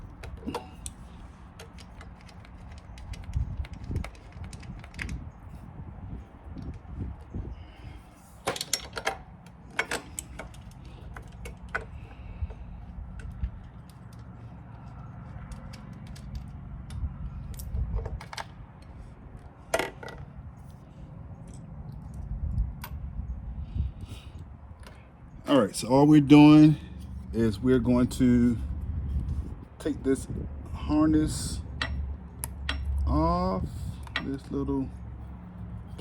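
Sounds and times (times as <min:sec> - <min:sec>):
hand tools and metal parts clinking: 0:00.0 - 0:23.0, 0:25.7 - 0:36.0
low steady rumble: 0:00.0 - 0:36.0.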